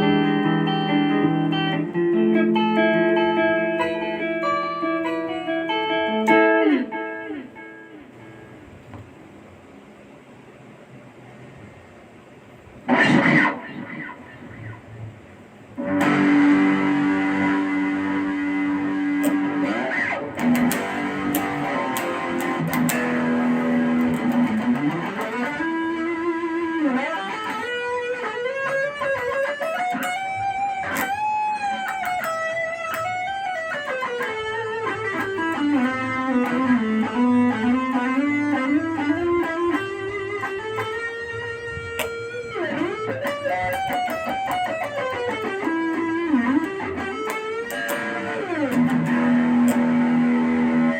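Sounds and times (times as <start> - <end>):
electric guitar lead with bends: 0.0 - 8.6, 12.9 - 50.9.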